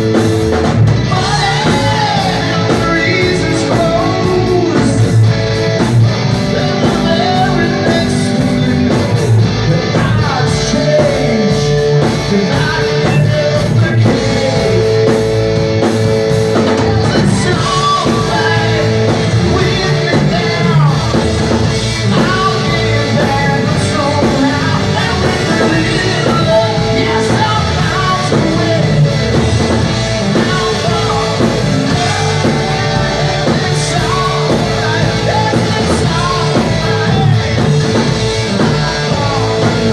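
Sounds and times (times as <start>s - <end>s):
electric guitar: 0.0s - 39.9s
rock song with singing: 0.0s - 39.9s.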